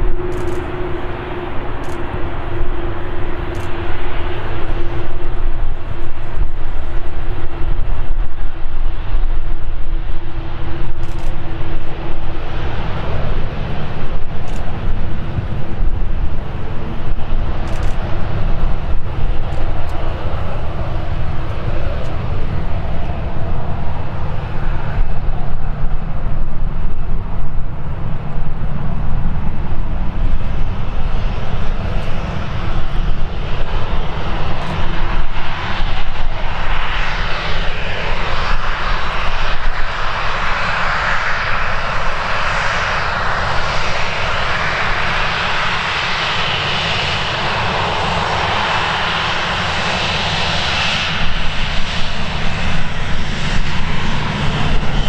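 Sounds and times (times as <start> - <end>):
jet engine whine and hiss: 0.0 - 55.0
jet engines rumbling: 0.0 - 55.0
wind buffeting microphone: 0.0 - 55.0.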